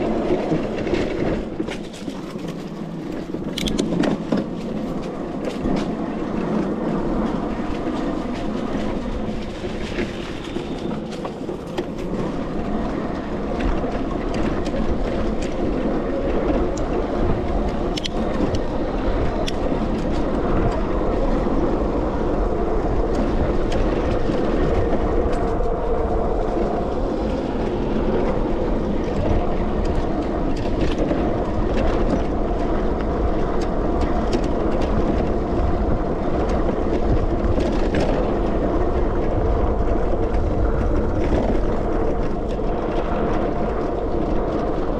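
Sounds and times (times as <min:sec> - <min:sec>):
clicks and rattles from rough ground: 0:00.0 - 0:44.9
tyre and wind rush: 0:00.0 - 0:44.9.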